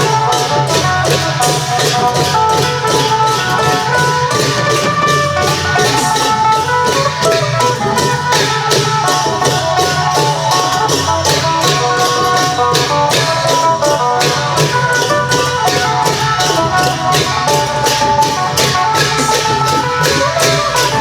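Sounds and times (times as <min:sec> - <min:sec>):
drums and metal percussion: 0:00.0 - 0:21.0.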